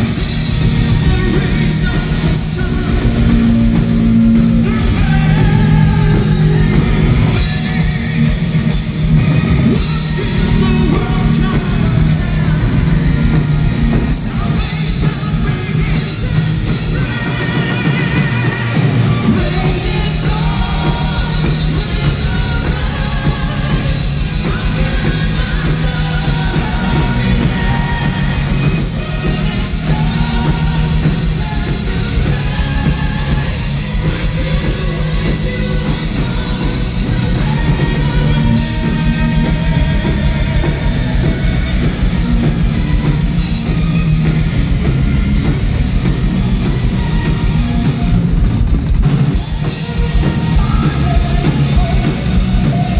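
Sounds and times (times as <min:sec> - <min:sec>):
person singing: 0:00.0 - 0:45.2, 0:49.3 - 0:52.9
heavy drums: 0:00.0 - 0:52.9
metal band playing live: 0:00.0 - 0:52.9.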